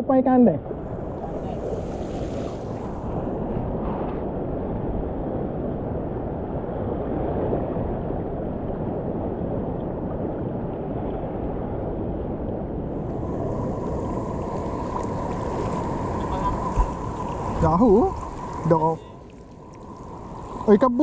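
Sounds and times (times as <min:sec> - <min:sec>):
sea surf rushing: 0:00.6 - 0:21.0
wind on microphone: 0:00.6 - 0:21.0.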